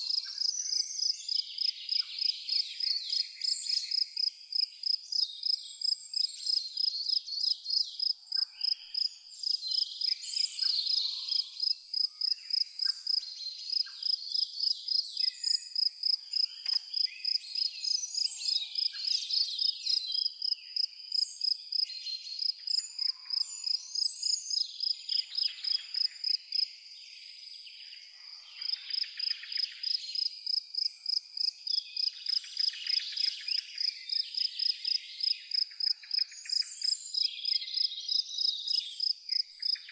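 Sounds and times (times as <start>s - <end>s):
cricket chirping: 0.0s - 27.4s, 28.6s - 39.9s
birds calling and singing: 0.0s - 39.9s.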